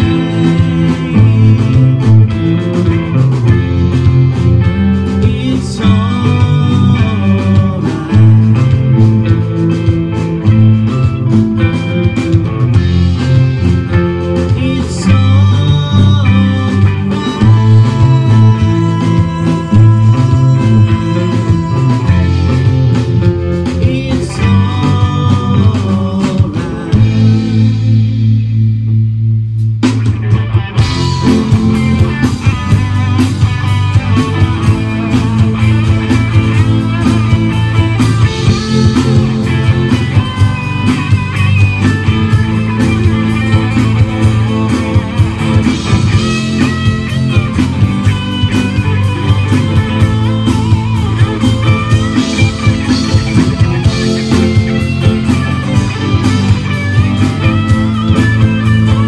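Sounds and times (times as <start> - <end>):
electric guitar: 0.0 - 59.0
live rock band playing: 0.0 - 59.0.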